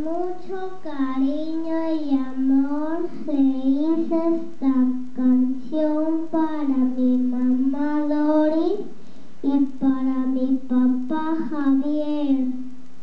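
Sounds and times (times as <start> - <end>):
girl singing into a microphone: 0.0 - 12.7.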